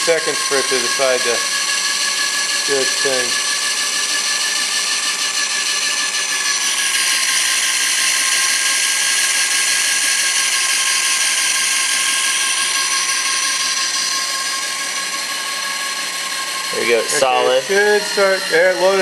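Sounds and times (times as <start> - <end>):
electric drill whine: 0.0 - 19.0.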